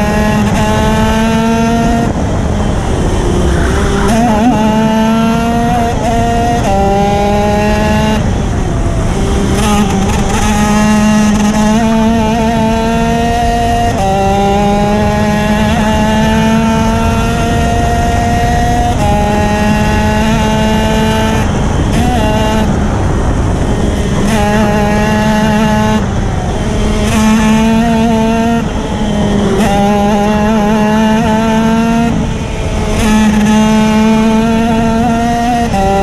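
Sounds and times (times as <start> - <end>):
kart engine revving: 0.0 - 36.0.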